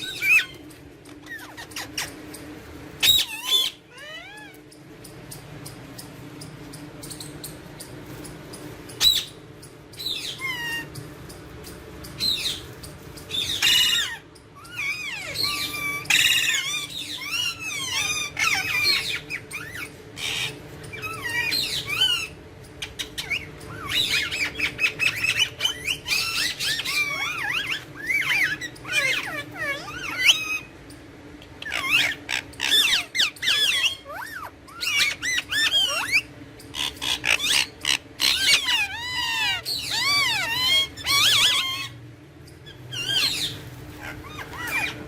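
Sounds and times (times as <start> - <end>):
parakeets chirping and squawking: 0.0 - 45.0.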